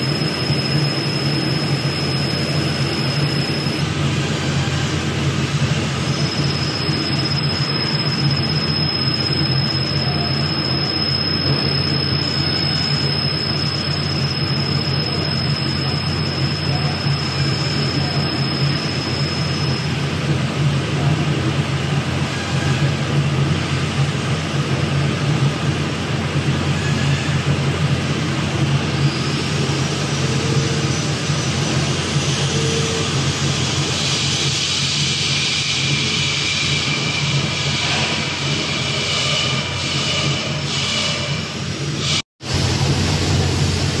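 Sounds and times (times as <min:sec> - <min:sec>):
machinery humming with hiss: 0:00.0 - 0:44.0.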